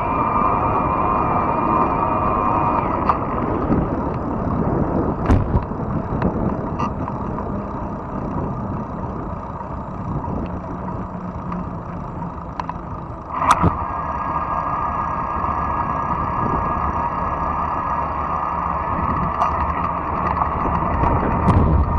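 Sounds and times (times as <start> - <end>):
electric bike hum: 0.0 - 21.9
rumbling tyre and wind noise: 0.0 - 21.9.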